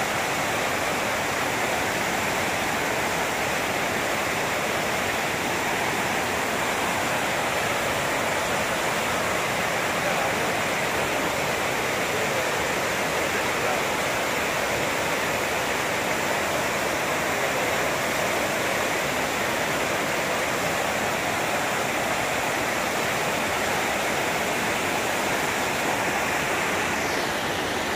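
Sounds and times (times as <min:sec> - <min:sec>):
rapids rushing over boulders: 0:00.0 - 0:27.9.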